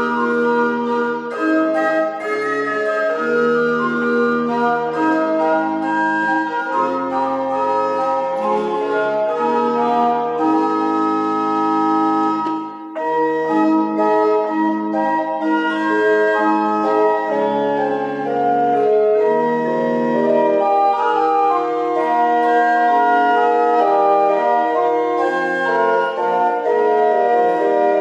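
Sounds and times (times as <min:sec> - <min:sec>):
organ playing hymn chords: 0:00.0 - 0:28.0.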